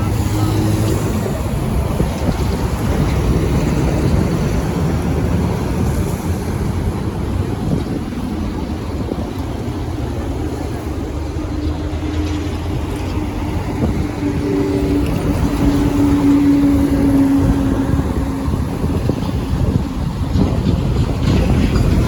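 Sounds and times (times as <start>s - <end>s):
low traffic rumble: 0.0s - 22.0s
vehicle engine droning: 0.0s - 22.0s
wind buffeting microphone: 0.0s - 22.0s.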